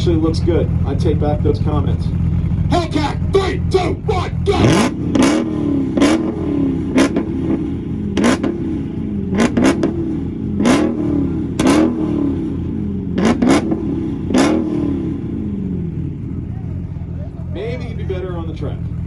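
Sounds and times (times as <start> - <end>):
car engine revving in blips: 0.0 - 19.0
sharp exhaust cracks: 0.0 - 19.0.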